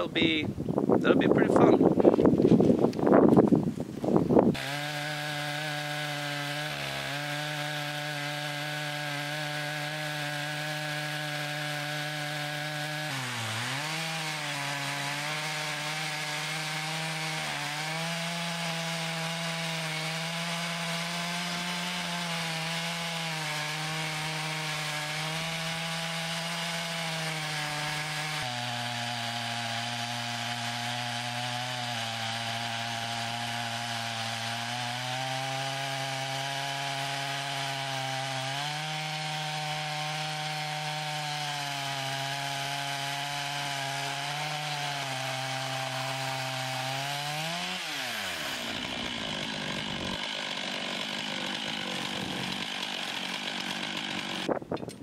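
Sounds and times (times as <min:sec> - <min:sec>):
chainsaw cutting log at full throttle: 0:00.0 - 0:00.4, 0:04.4 - 0:54.6.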